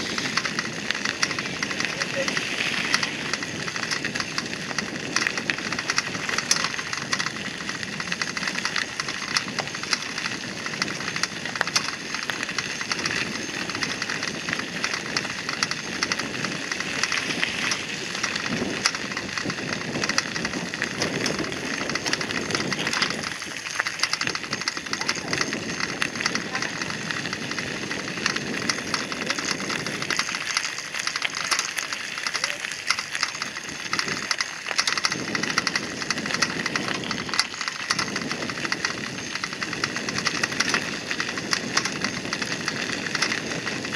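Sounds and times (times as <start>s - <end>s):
bicycle tyres crunching gravel: 0.0s - 43.9s.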